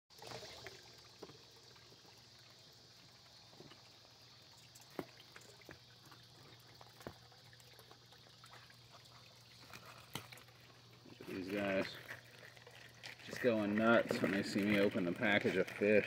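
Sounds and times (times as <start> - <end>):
small water splashes and plops: 0.1 - 16.0
water trickling: 0.1 - 16.0.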